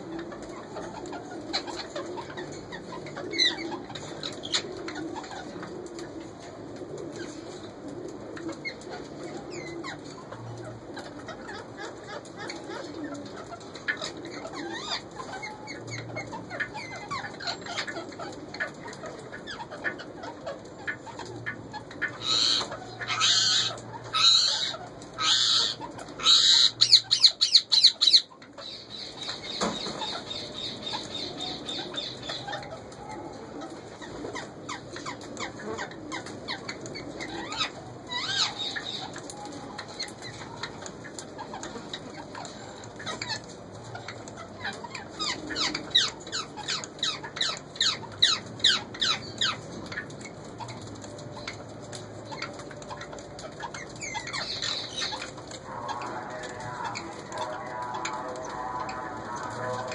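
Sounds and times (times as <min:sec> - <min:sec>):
soft bird sounds: 0:00.0 - 0:59.9.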